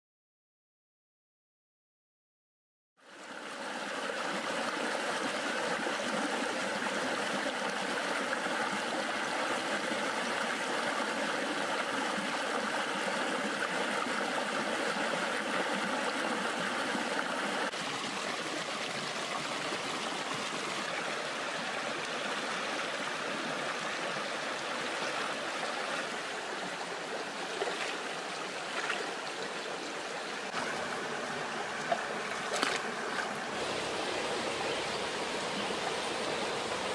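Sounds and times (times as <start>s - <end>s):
stream rushing over stones: 3.1s - 36.9s.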